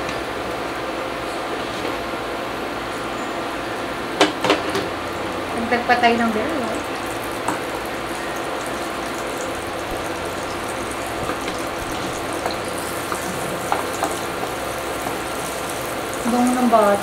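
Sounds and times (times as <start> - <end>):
induction cooker humming: 0.0 - 17.0.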